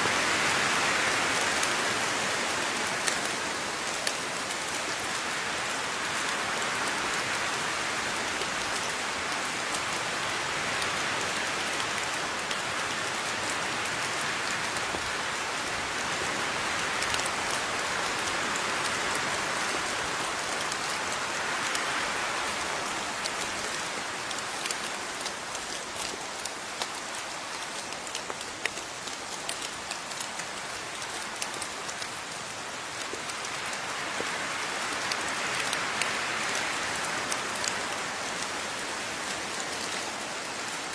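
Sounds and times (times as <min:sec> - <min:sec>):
steady rain falling: 0:00.0 - 0:40.9
raindrops pattering on a surface: 0:00.1 - 0:40.9.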